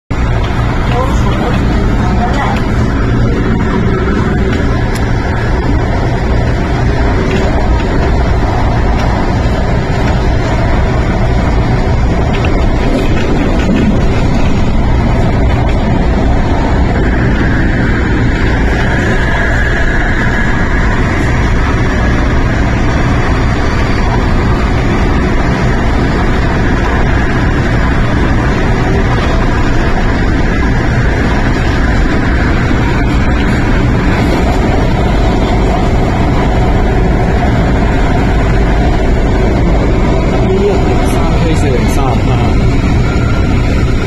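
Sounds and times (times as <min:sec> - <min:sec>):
electric train running noise: 0:00.1 - 0:44.0.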